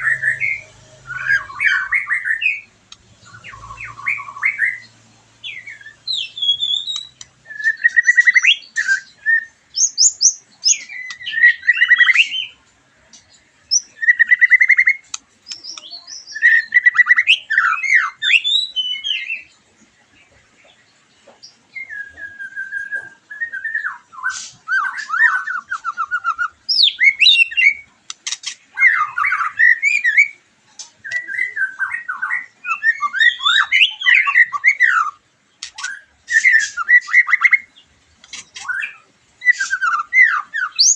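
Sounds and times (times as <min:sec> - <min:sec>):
bird singing whistles and trills: 0:00.0 - 0:12.6, 0:13.7 - 0:19.5, 0:21.7 - 0:27.9, 0:28.7 - 0:30.4, 0:31.0 - 0:40.9.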